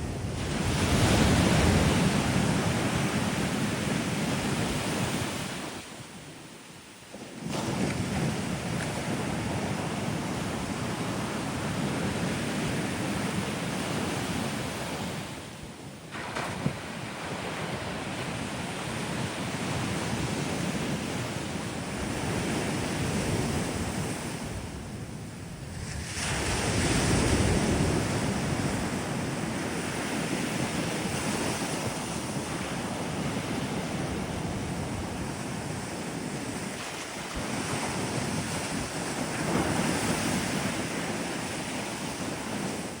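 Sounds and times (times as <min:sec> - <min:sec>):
surf breaking on sandy beach: 0:00.0 - 0:05.8, 0:07.2 - 0:43.0.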